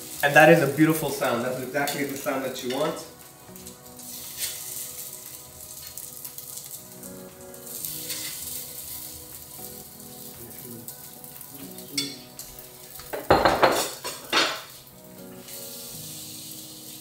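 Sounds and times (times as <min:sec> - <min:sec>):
food sizzling on griddle: 0:00.0 - 0:17.0.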